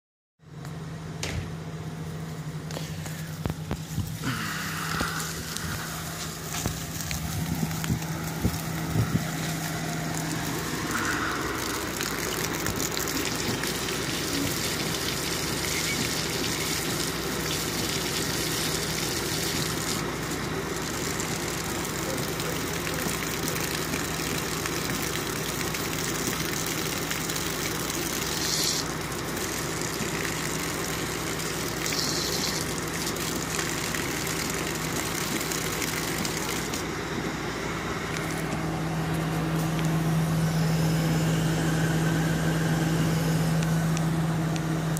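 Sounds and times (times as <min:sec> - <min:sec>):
car engine idling: 0:00.4 - 0:44.9
garden hose spraying water: 0:02.0 - 0:44.9.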